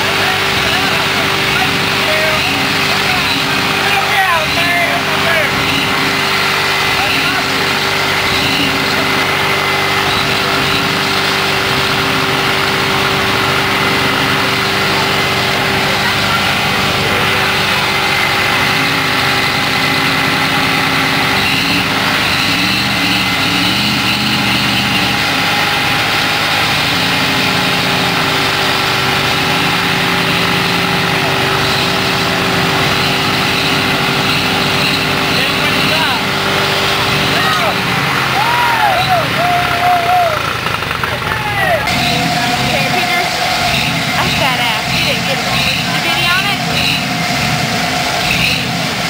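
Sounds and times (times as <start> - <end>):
engine revving: 0.0 - 49.0
vehicle engines running: 0.0 - 49.0.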